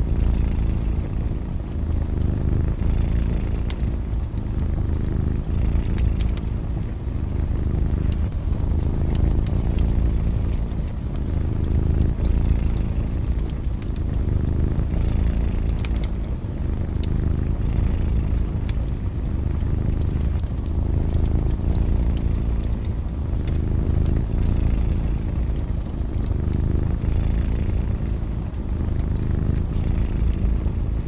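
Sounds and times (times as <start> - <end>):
cat purring: 0.0 - 31.0
wood fire crackling and popping: 0.0 - 31.0.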